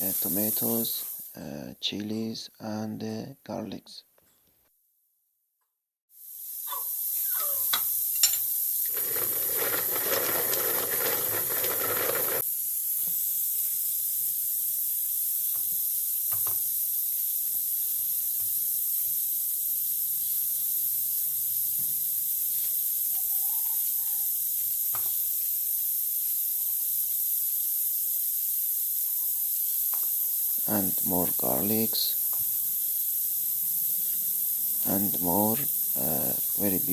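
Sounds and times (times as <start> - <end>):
pressure cooker hissing: 0.0 - 1.4, 6.2 - 36.9.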